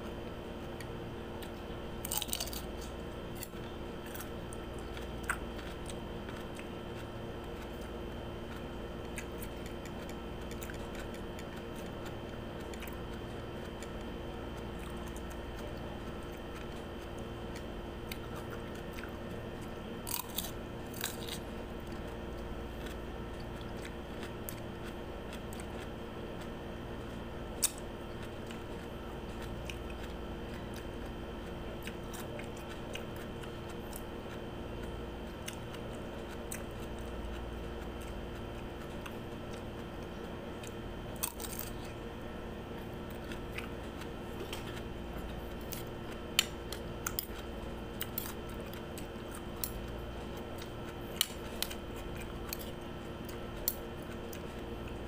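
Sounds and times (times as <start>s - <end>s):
chewing crunchy cucumber: 0.0s - 55.0s
steady electrical hum: 0.0s - 55.0s.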